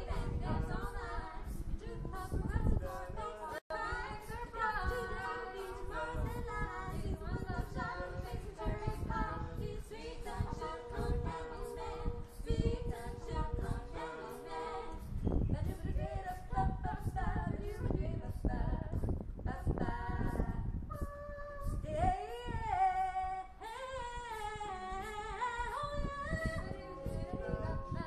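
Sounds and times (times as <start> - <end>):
young singers a cappella harmony: 0.0 - 28.0.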